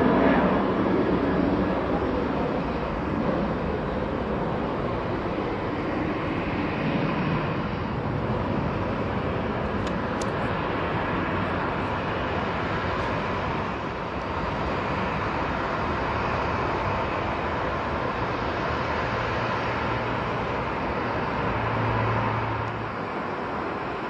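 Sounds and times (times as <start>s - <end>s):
jet engines taxiing: 0.0s - 24.0s.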